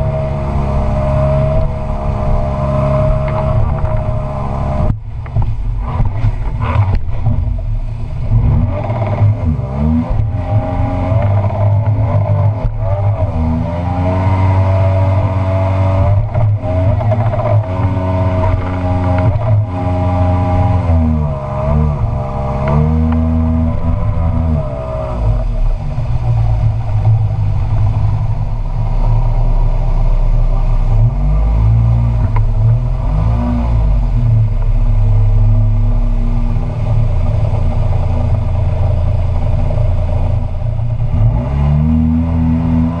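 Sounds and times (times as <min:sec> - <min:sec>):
outboard motor running: 0:00.0 - 0:33.2, 0:33.8 - 0:41.1
water rushing along hull: 0:00.0 - 0:43.0.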